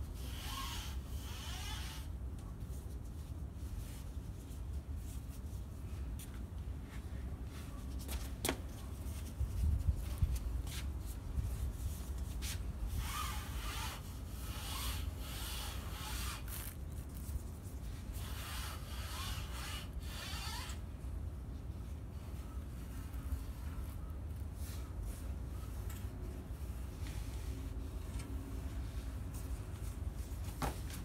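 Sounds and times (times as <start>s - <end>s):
cloth wiping a screen door: 0.0s - 31.0s.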